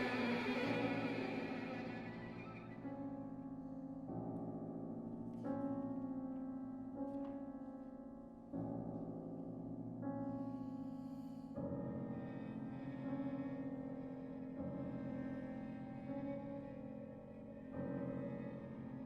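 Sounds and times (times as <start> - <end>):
string and piano trio chords: 0.0 - 19.0.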